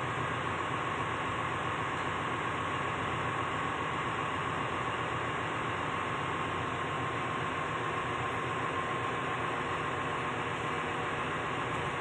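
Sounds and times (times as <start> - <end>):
constant high whine: 0.0 - 12.0
engine room machinery hum: 0.0 - 12.0.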